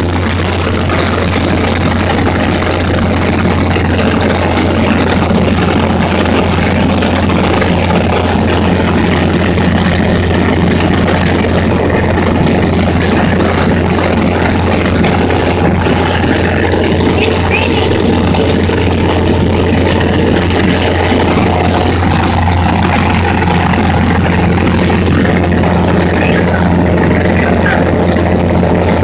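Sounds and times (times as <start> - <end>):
airplane engine drone: 0.0 - 29.0.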